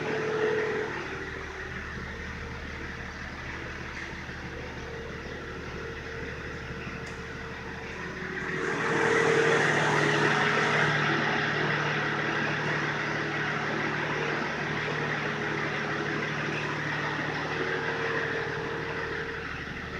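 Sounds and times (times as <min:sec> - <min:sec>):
car engine droning: 0:00.0 - 0:19.9.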